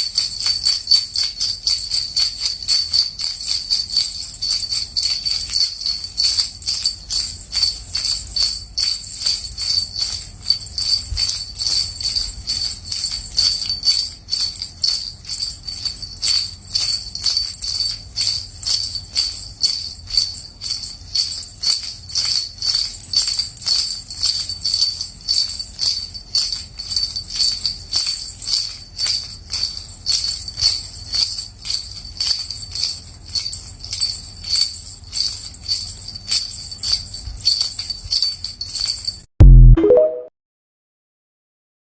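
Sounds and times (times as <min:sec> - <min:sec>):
small bells jingling: 0:00.0 - 0:39.3.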